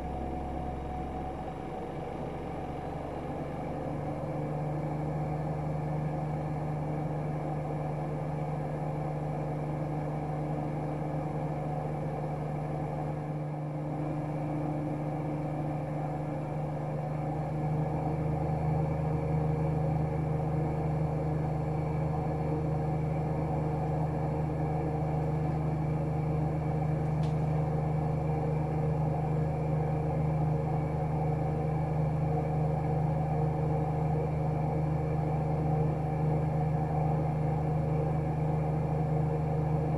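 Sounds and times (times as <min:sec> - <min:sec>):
washing machine spinning hum: 0:00.0 - 0:39.9.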